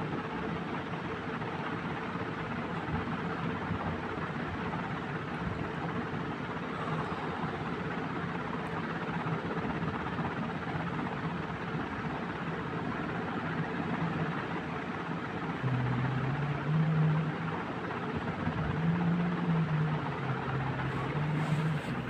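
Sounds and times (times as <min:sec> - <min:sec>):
mechanical hum with rushing noise: 0:00.0 - 0:22.0.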